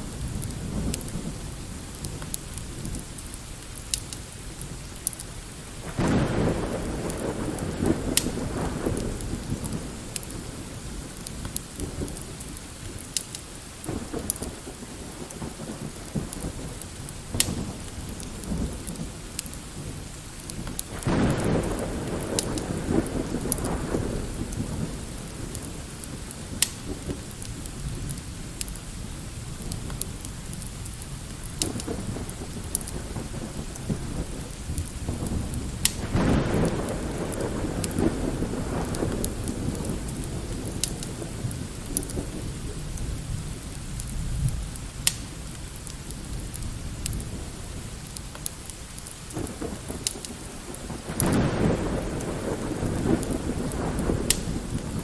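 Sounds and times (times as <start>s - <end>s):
light rain: 0.0s - 55.0s
sharp crackles: 0.1s - 55.0s
distant rolling thunder: 5.7s - 13.1s, 13.8s - 48.0s, 49.0s - 55.0s.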